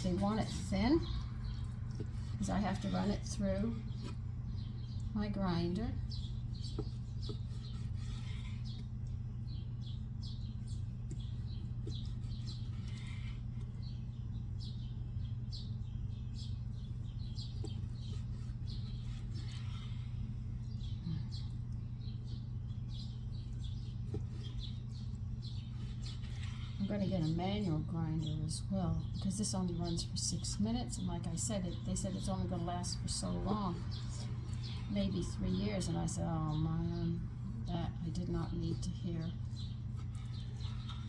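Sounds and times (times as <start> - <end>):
small bird chirping: 0.0 - 41.0
steady low hum: 0.0 - 41.0.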